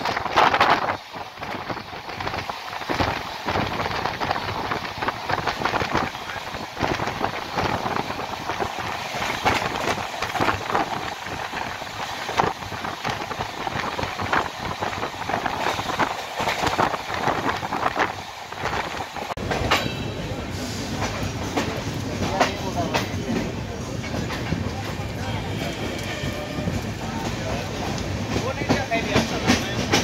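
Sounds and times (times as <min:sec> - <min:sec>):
deep train rumble: 0:00.0 - 0:30.0
train wheels clattering on rails: 0:00.0 - 0:30.0.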